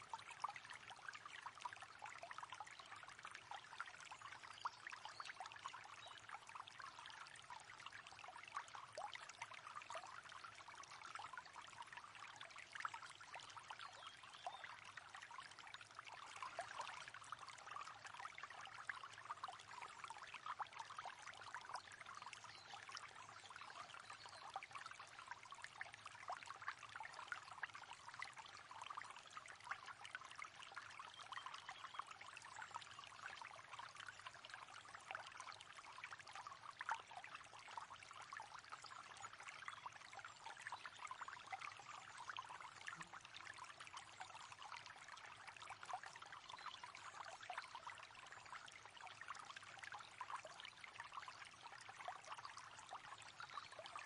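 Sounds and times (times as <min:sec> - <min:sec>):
river water over stones: 0:00.0 - 0:54.0.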